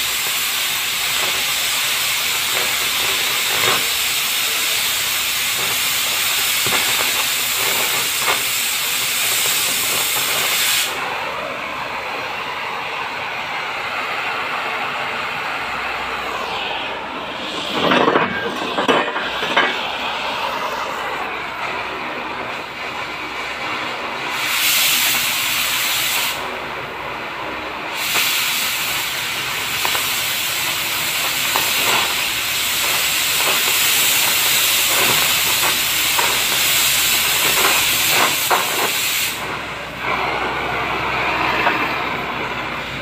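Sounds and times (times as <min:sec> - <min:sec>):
oxygen jet hissing: 0:00.0 - 0:43.0
torch flame hissing: 0:00.0 - 0:43.0.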